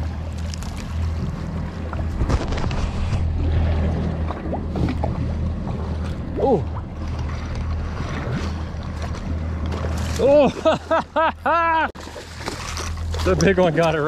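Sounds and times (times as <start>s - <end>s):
outboard engines idling: 0.0s - 2.2s, 3.2s - 14.0s
water noise: 0.0s - 14.0s
wind: 0.0s - 14.0s.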